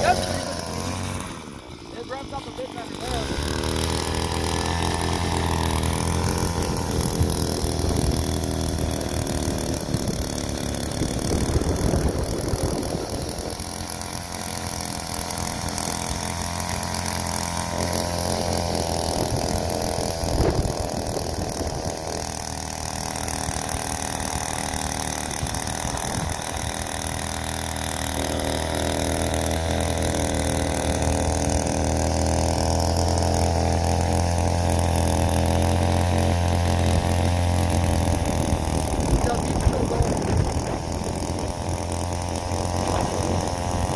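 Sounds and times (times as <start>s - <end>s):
cultivator engine running: 0.0s - 43.9s.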